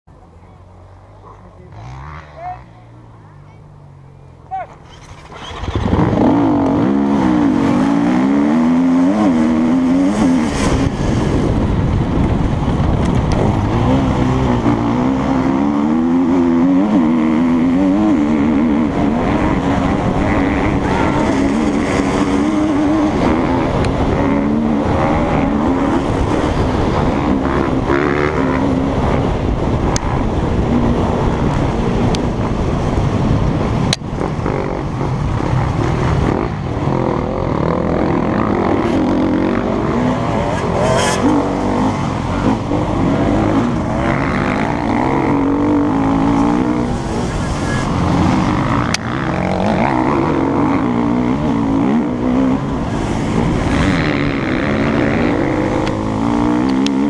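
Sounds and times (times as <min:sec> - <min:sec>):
dirt bike engine at full throttle: 0:00.1 - 0:57.0.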